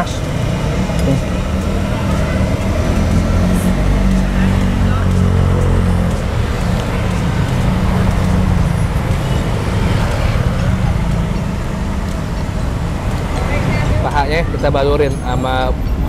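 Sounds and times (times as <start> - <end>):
street noise: 0.0 - 16.0
vehicle engine humming: 0.0 - 16.0.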